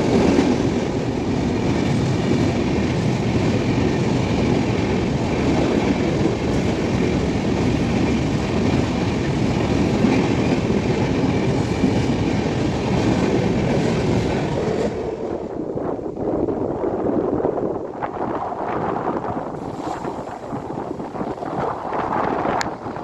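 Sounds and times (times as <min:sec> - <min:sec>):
train passing rumble: 0:00.0 - 0:23.0.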